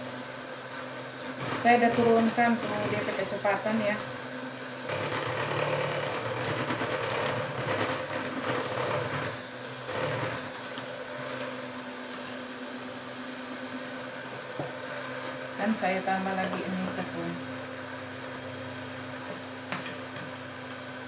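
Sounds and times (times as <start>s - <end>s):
electric hand mixer whisking: 0.0s - 21.0s.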